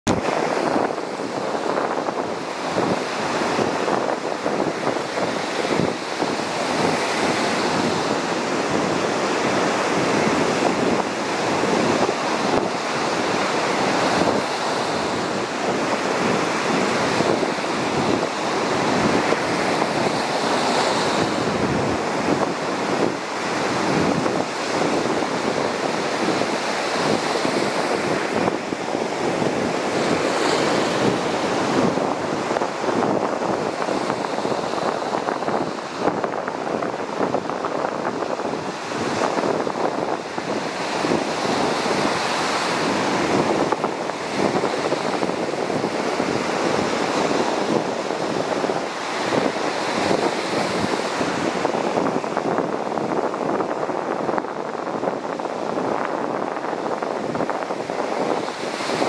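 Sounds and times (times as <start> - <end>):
ocean surf breaking: 0.1 - 59.0
wind buffeting microphone: 0.1 - 59.0.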